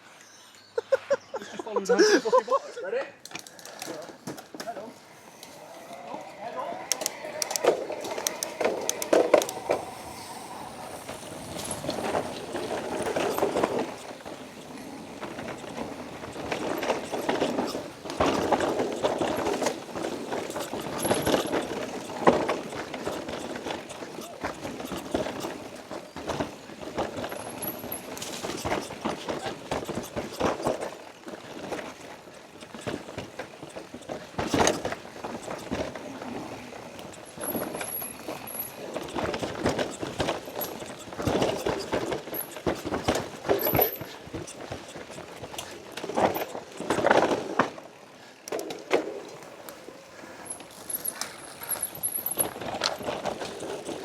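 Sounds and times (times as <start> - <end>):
bike rattling over stones: 3.2 - 54.0.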